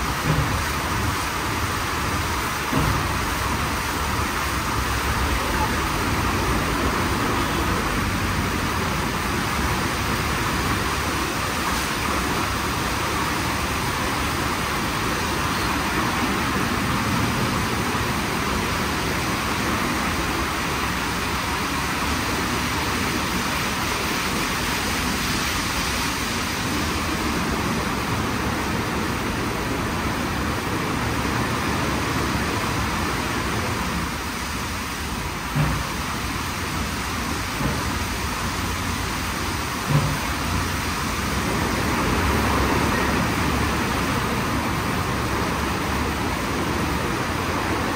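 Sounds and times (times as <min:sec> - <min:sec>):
car wash machinery and water: 0:00.0 - 0:47.9.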